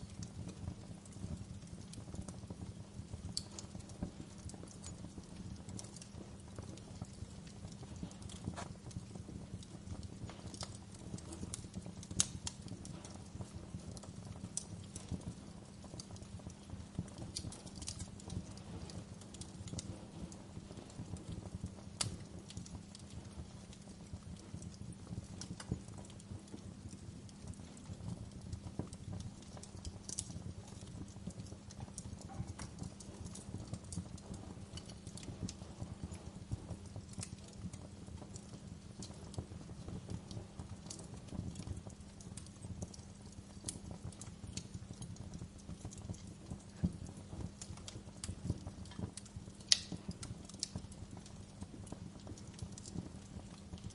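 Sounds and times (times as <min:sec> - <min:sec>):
low rumble of fire: 0:00.0 - 0:53.9
wood fire pops and snaps: 0:00.0 - 0:53.9.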